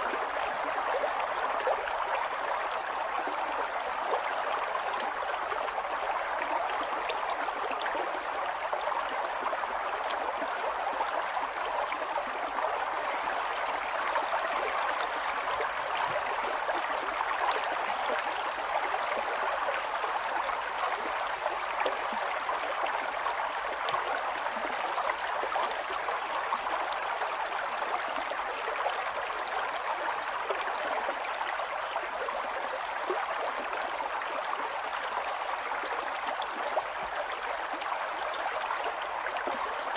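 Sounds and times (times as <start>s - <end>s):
water flowing with splashes: 0.0s - 39.9s.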